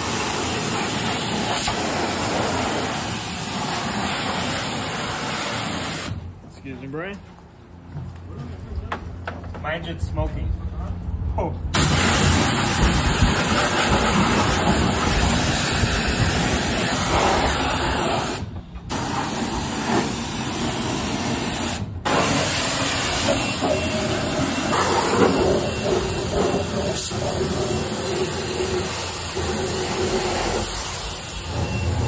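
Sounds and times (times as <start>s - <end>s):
high-pressure water spray hissing: 0.0s - 6.2s, 11.8s - 32.0s.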